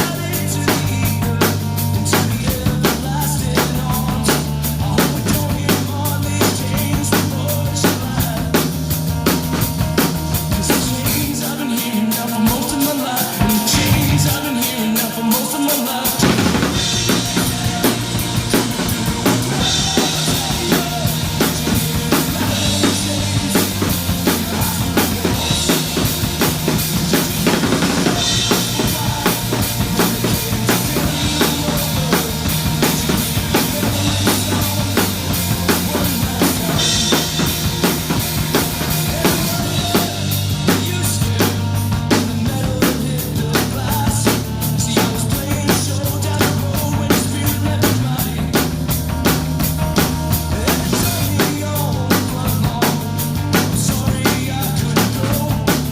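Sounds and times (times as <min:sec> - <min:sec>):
drum kit punk-rock beat: 0:00.0 - 0:55.9
rock band track: 0:00.0 - 0:55.9.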